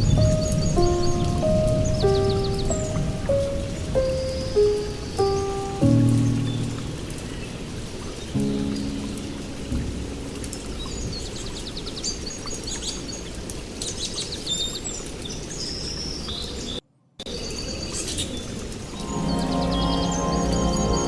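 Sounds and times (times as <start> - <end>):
songbirds chirping and trilling: 0.0 - 16.8, 17.4 - 21.0.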